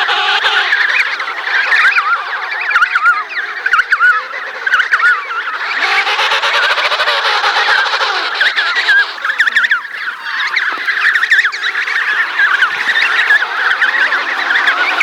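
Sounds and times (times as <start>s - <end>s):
penguin chicks whistling calls: 0.0s - 15.0s.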